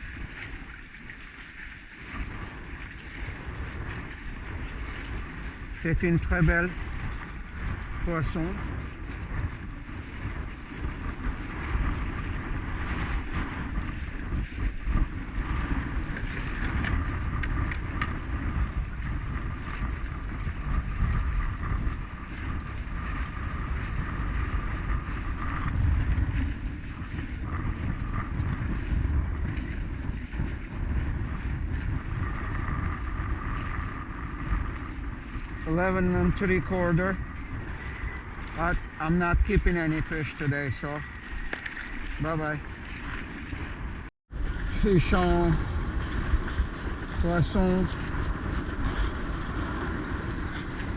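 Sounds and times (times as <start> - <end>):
choppy water: 0.0 - 50.9
wind buffeting microphone: 0.0 - 50.9.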